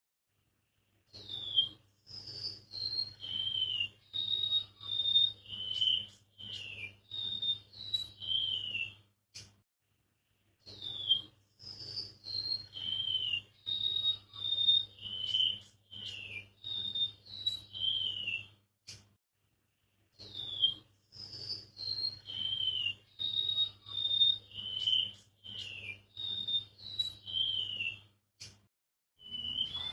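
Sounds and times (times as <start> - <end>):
bird singing high whistles: 1.1 - 9.0, 10.6 - 18.6, 20.2 - 28.1, 29.2 - 29.9.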